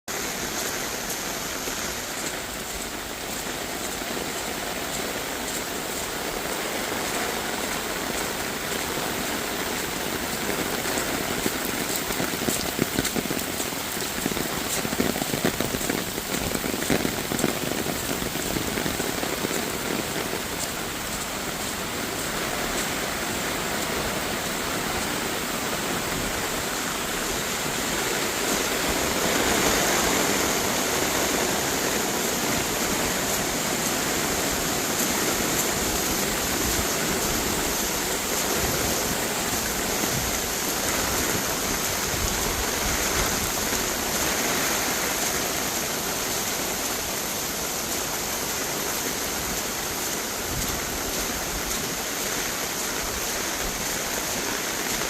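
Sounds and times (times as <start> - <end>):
floodwater rushing: 0.1 - 55.0.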